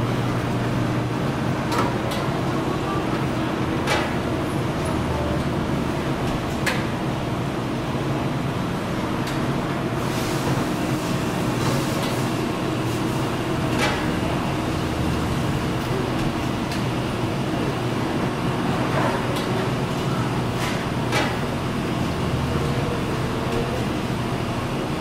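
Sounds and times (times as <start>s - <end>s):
steady mechanical drone: 0.0s - 25.0s.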